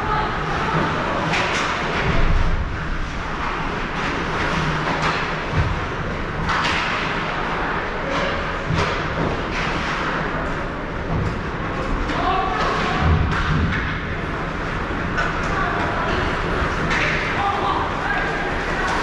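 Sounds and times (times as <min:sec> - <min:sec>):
ice rink hall din: 0:00.0 - 0:19.0.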